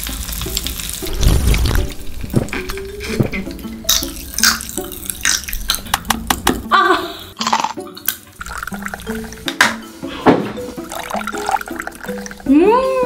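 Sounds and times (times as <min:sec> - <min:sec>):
light background music: 0:00.0 - 0:13.0.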